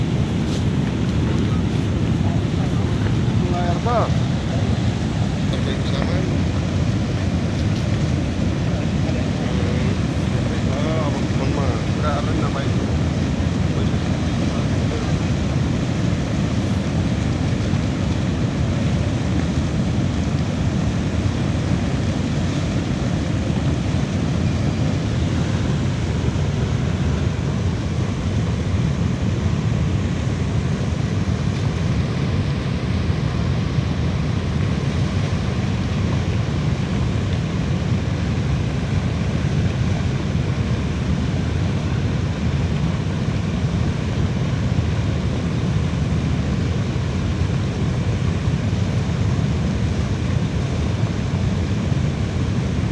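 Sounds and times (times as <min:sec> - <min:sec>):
flooded river rushing: 0:00.0 - 0:52.9.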